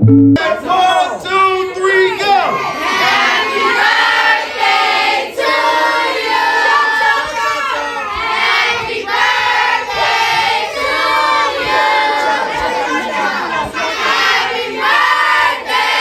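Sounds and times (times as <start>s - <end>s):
group singing and shouting: 1.8s - 16.0s.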